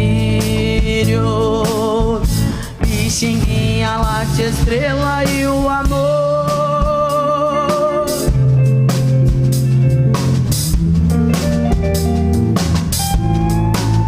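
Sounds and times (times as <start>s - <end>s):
bass guitar: 0.0s - 14.0s
drum kit: 0.0s - 14.0s
electric guitars: 0.0s - 14.0s.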